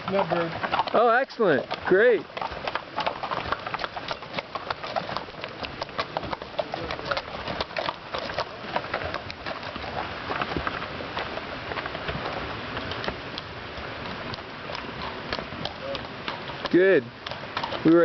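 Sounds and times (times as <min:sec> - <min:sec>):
mule hooves clopping on trail: 0:00.0 - 0:18.0.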